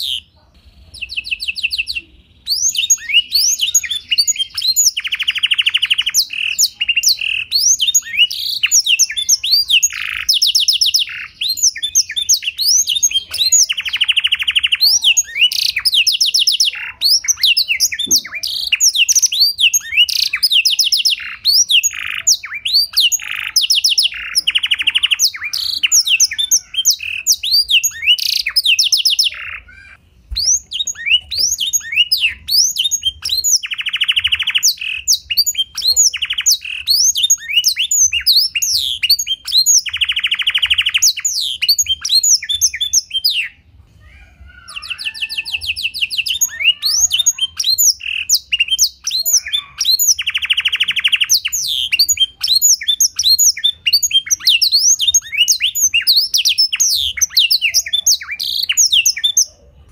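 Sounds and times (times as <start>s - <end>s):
canary singing trills and whistles: 0.0s - 59.9s.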